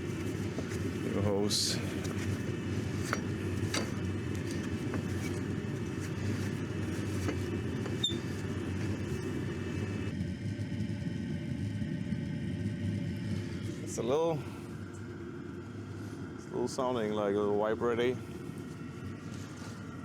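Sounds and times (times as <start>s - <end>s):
heater combustion and blower rumble: 0.0s - 20.0s.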